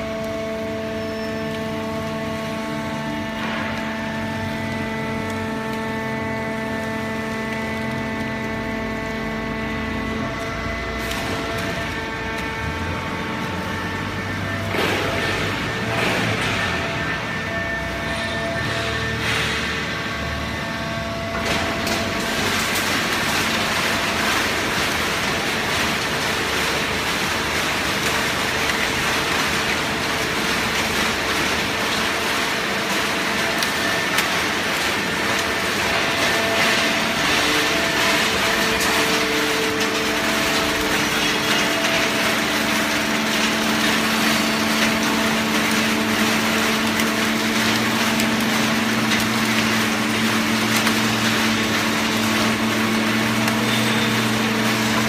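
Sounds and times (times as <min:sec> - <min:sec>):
hydraulic baler running: 0:00.0 - 0:55.0.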